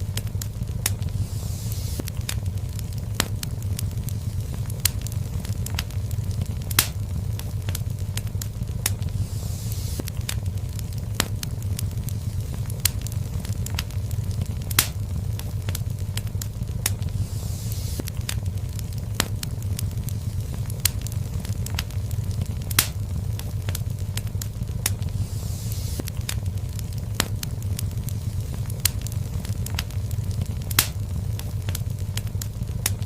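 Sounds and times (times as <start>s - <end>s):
fire hissing: 0.0s - 33.0s
wood fire crackling and popping: 0.0s - 33.0s.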